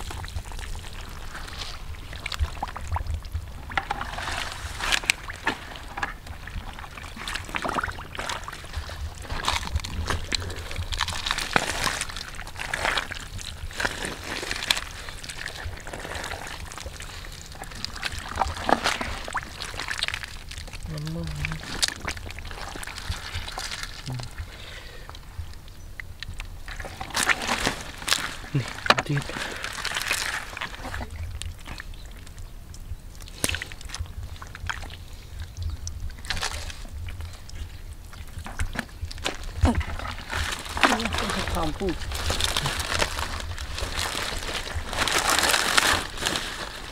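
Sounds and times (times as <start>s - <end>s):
small water splashes: 0.0s - 46.9s
hand squelching through wet mud: 3.8s - 25.6s, 26.7s - 32.4s, 33.2s - 46.9s.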